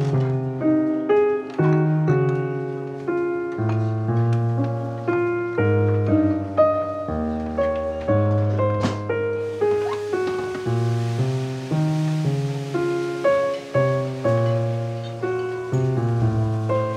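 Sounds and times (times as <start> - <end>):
deep piano bass notes: 0.0 - 16.9
piano music: 0.0 - 16.9.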